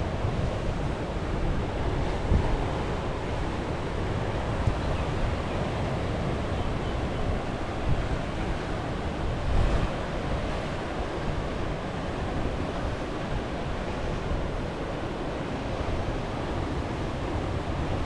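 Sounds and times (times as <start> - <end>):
wind buffeting microphone: 0.0 - 15.8
ocean surf on rocks: 0.0 - 18.0.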